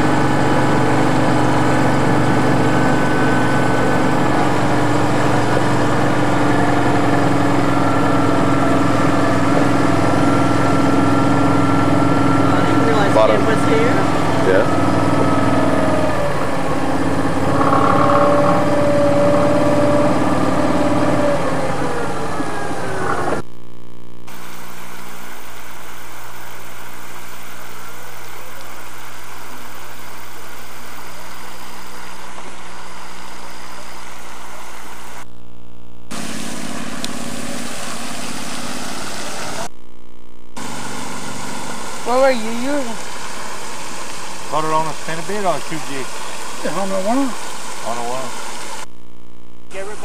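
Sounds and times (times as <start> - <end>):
engine humming: 0.0 - 50.0.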